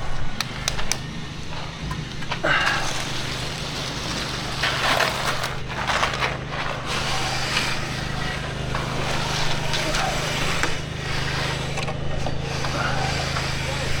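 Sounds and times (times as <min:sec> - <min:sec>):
engine running steadily: 0:00.0 - 0:14.0
rough scraping noises: 0:00.0 - 0:14.0.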